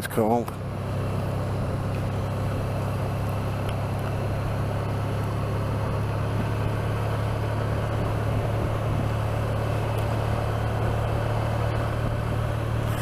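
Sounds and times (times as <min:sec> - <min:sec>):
motorcycle engine drone: 0:00.0 - 0:13.0
road and wind noise: 0:00.0 - 0:13.0.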